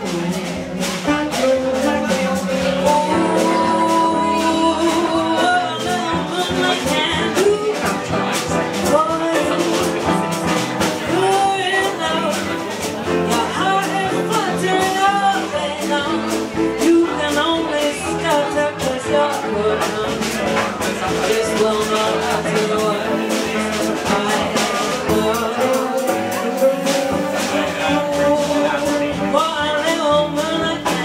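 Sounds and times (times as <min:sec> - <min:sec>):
double bass: 0:00.0 - 0:31.0
guitar: 0:00.0 - 0:31.0
horn chords: 0:00.0 - 0:31.0
woman singing: 0:00.0 - 0:31.0.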